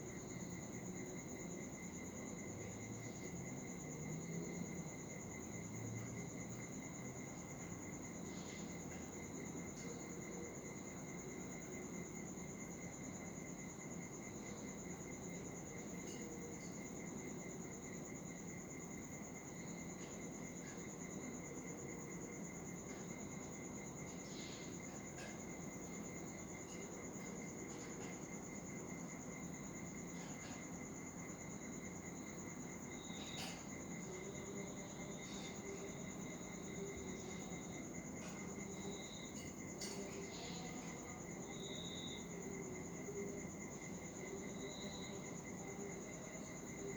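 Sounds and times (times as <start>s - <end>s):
cricket trilling: 0.0s - 46.9s.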